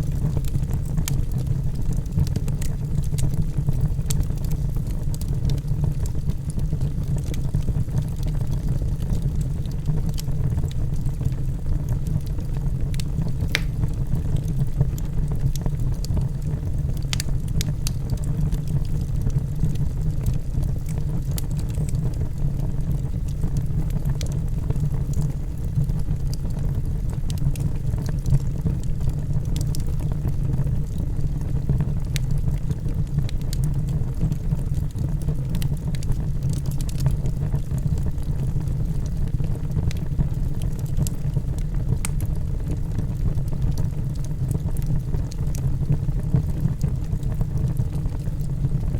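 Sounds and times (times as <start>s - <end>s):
burning wood crackling and popping: 0.0s - 48.9s
fire low rumble: 0.0s - 48.9s.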